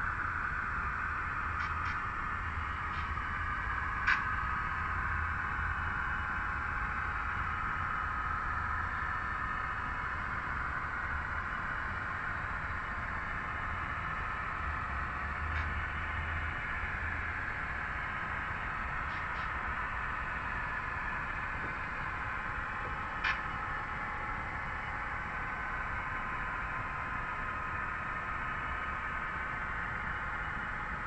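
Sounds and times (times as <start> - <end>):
model train rolling on track: 0.0 - 31.0.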